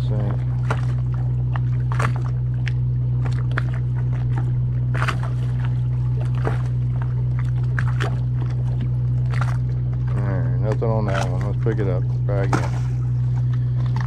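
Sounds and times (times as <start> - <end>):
machinery humming: 0.0 - 14.0
water slapping against hulls: 0.0 - 14.0.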